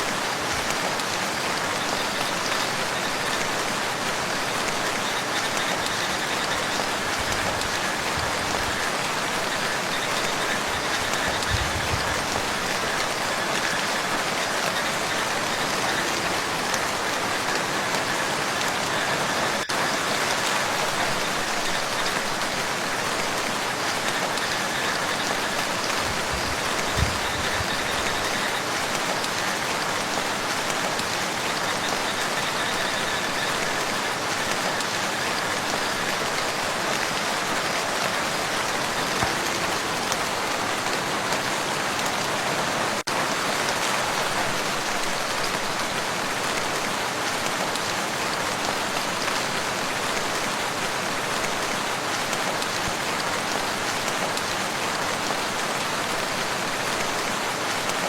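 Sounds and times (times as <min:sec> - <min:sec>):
rain falling on a lake: 0:00.0 - 0:58.0.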